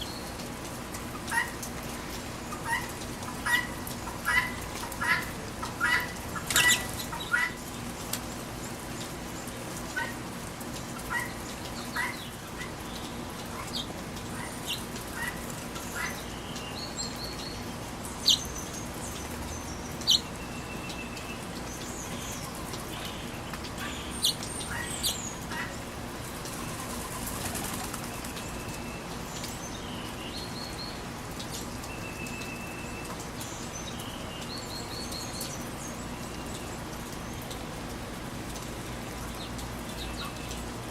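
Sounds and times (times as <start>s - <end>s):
rain hissing: 0.0s - 40.9s
small birds chirping: 1.1s - 10.2s, 10.8s - 37.6s, 39.1s - 40.9s.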